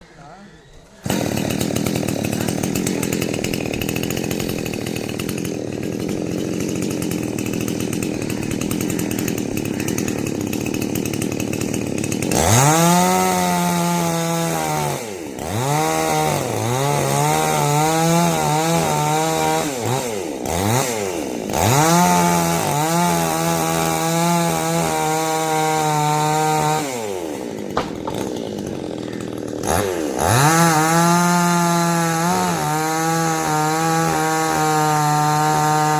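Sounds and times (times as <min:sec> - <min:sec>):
chainsaw revving: 0:00.7 - 0:35.9.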